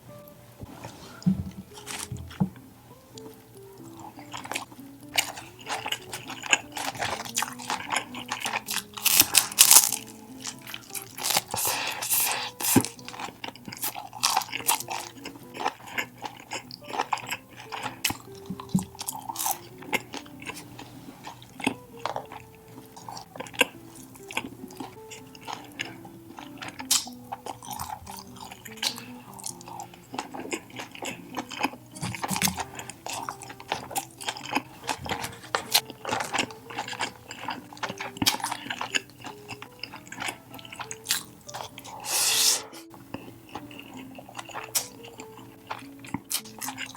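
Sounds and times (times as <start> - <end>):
quiet background music: 0.0 - 46.9
close chewing and crunching: 0.8 - 46.9.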